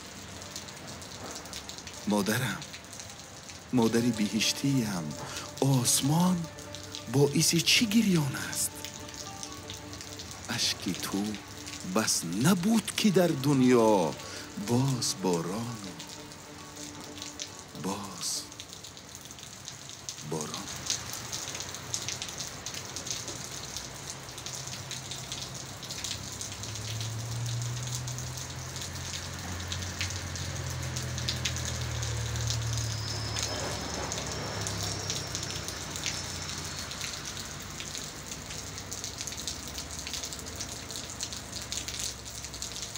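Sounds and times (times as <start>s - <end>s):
rain on pavement and canopy: 0.0s - 42.9s.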